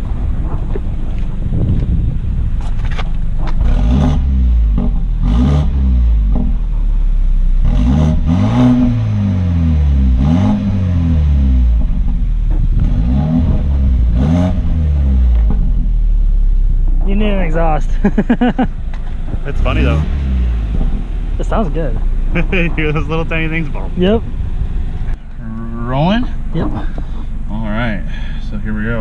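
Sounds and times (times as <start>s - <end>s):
turbo intake whoosh: 0.0s - 16.9s, 18.7s - 29.0s
car engine revving: 0.0s - 29.0s.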